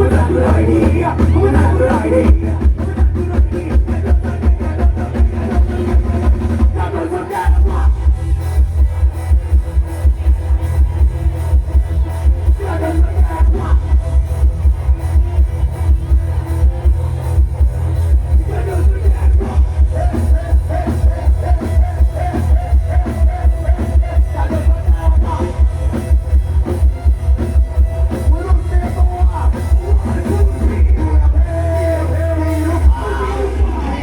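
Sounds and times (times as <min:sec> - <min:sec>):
loud dance music from speakers: 0:00.0 - 0:34.0.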